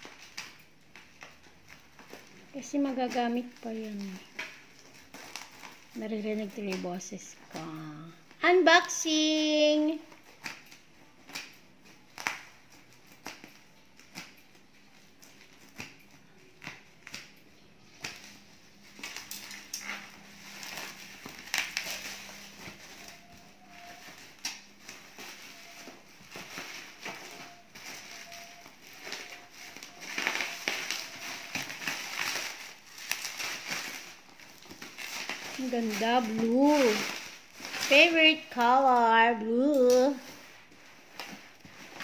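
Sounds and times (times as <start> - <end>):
scissors snipping bubble wrap: 0.0 - 8.0, 10.1 - 42.0
bubble wrap and cardboard rustling: 0.0 - 42.0.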